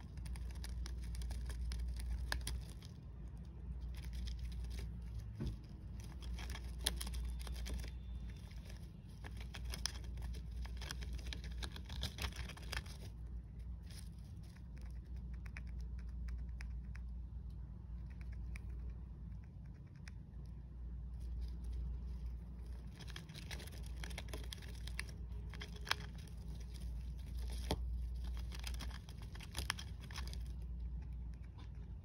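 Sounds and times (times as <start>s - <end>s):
hamster rustling in wood shavings: 0.0s - 15.2s, 21.0s - 31.8s
low steady hum: 0.0s - 32.0s.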